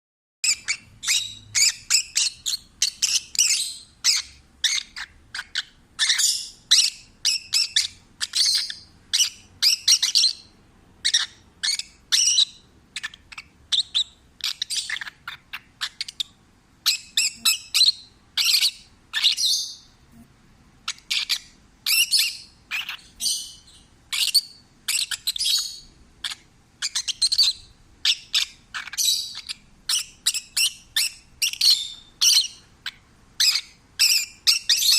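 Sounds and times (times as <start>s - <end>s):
lovebird chirping and squawking: 0.4s - 20.0s, 20.8s - 34.9s.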